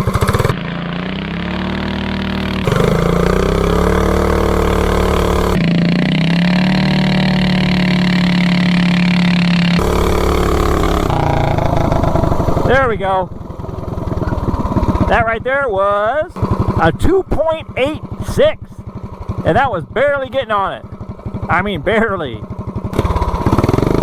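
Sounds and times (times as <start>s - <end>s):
minibike engine revving hard: 0.0s - 24.0s.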